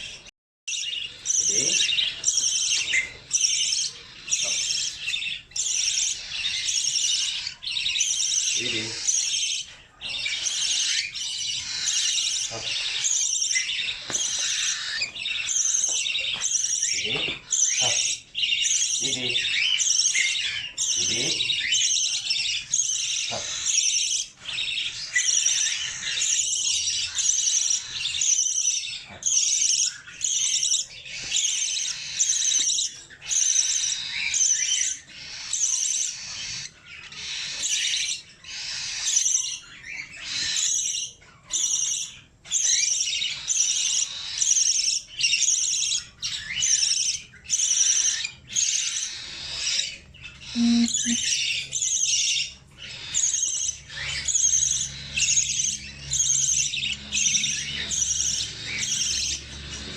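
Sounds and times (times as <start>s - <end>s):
budgerigar chirping: 0.0s - 59.9s.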